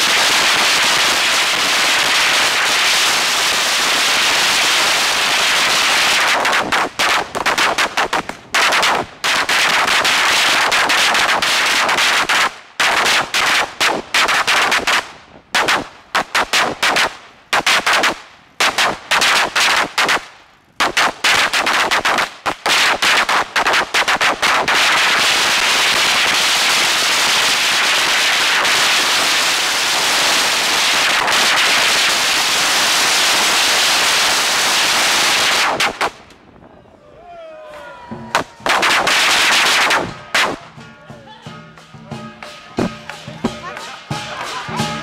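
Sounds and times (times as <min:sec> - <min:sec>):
firecrackers crackling: 0:00.0 - 0:37.0, 0:37.7 - 0:45.0.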